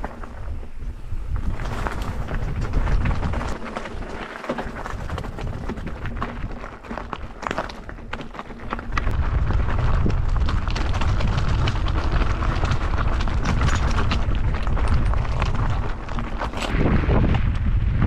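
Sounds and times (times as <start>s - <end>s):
bike rattling over stones: 0.0s - 18.0s
wind rumble on microphone: 0.0s - 18.0s.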